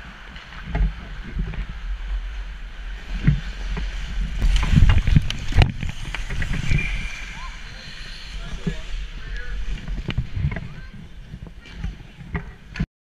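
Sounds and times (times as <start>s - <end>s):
low rumble: 0.0s - 12.0s
skates scraping ice: 0.0s - 12.7s.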